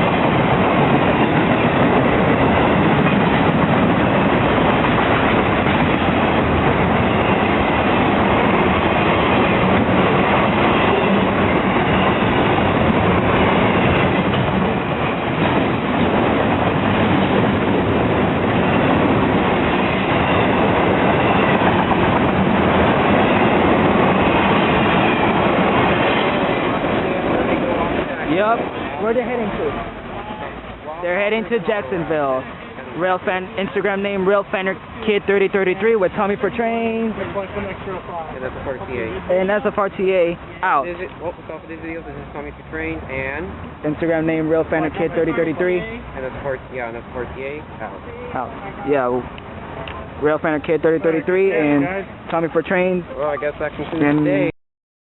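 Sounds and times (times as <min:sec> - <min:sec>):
train wheels on rails: 0:00.0 - 0:54.5.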